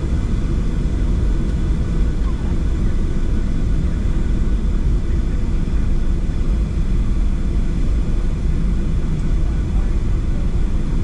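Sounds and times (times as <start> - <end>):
aircraft cabin low rumble: 0.0 - 11.0.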